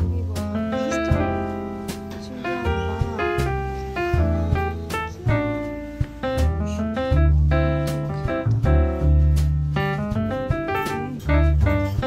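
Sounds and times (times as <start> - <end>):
deep bass notes: 0.0 - 12.0.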